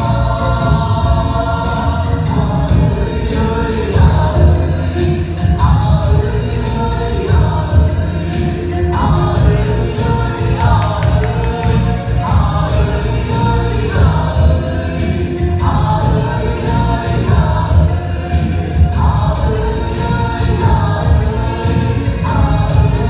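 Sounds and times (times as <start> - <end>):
backing track with heavy bass: 0.0 - 23.0
choir singing: 0.0 - 23.0.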